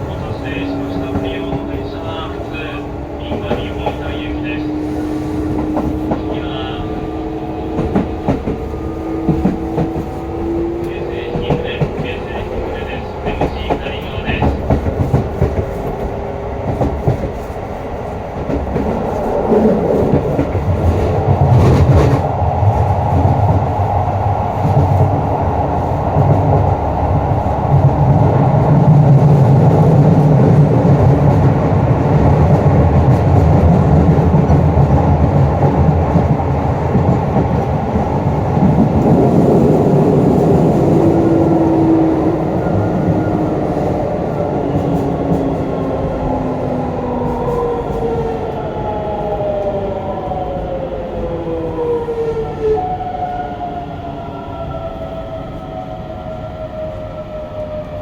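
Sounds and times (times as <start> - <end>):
wheel-on-rail rumble: 0.0 - 50.8.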